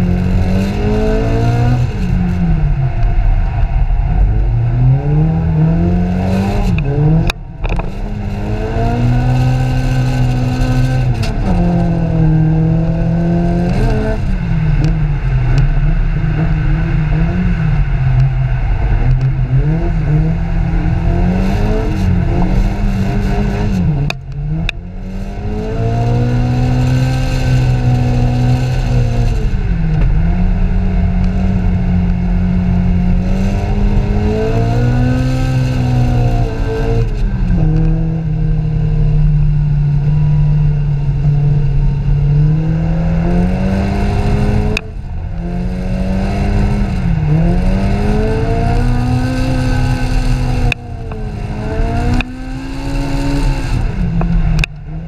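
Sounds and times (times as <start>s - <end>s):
car engine revving inside cabin: 0.0s - 55.0s.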